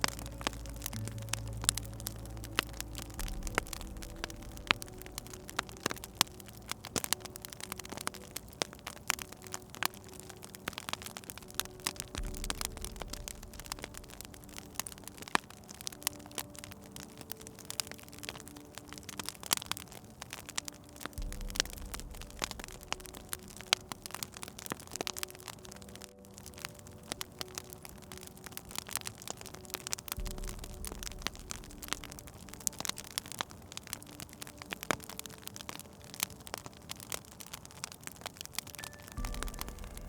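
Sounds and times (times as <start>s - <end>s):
low sustained tones: 0.0s - 40.0s
wood fire crackling and popping: 0.0s - 40.0s.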